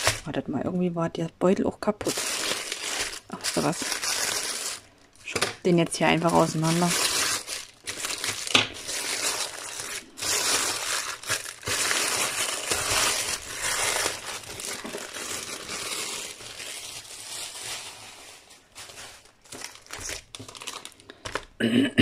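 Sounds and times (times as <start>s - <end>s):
plastic packaging crinkling: 0.0s - 0.4s, 1.9s - 21.6s.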